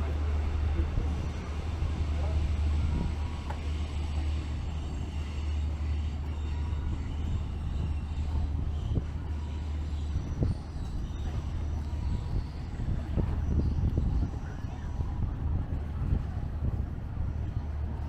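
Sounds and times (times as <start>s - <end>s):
city street noise: 0.0s - 18.0s
wind buffeting microphone: 0.0s - 18.0s.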